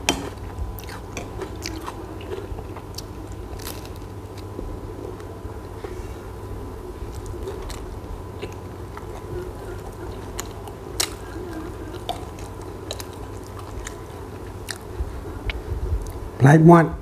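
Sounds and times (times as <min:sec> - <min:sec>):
low background hum: 0:00.0 - 0:17.0
chewing crunchy fried snack: 0:00.8 - 0:06.0, 0:07.0 - 0:16.2.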